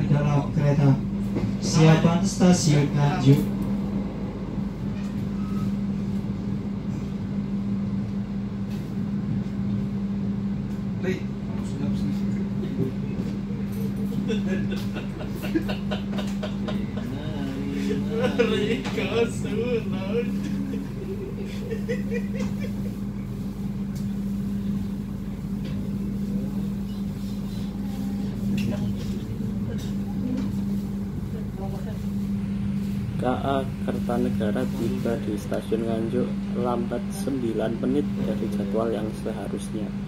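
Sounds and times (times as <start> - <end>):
constant low hum: 0.0 - 40.0
train rumbling: 0.0 - 40.0.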